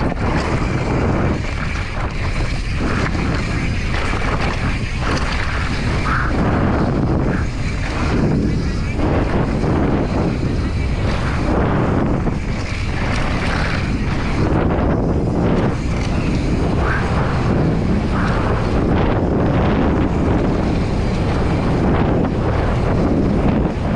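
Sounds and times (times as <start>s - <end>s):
bike clattering over bumps: 0.0s - 23.9s
tyres rushing on dirt: 0.0s - 23.9s
wind buffeting microphone: 0.0s - 23.9s.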